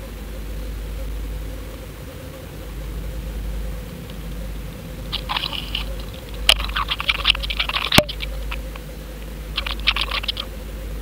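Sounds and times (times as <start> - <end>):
steady underwater hum: 0.0 - 11.0
rapid clicking and crackling: 0.8 - 10.6.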